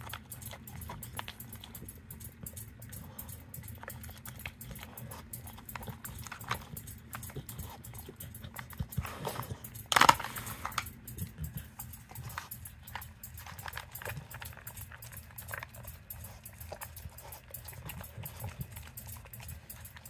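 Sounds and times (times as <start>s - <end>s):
dog snuffling: 0.0s - 20.0s.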